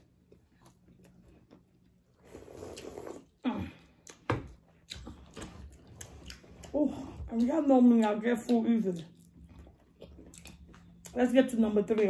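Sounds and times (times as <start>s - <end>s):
chewing mouth noises: 0.1s - 12.0s.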